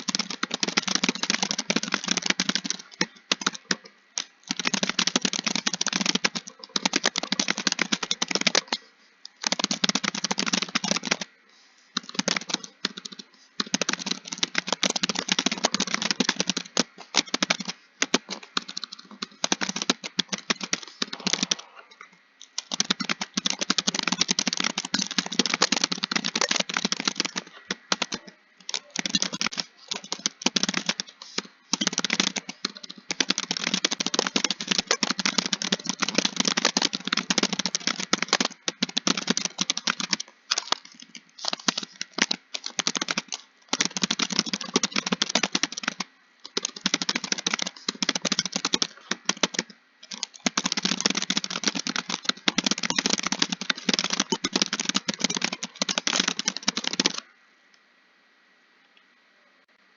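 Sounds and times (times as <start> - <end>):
fast typing on keyboard: 0.0 - 11.3, 12.0 - 21.7, 22.4 - 57.2.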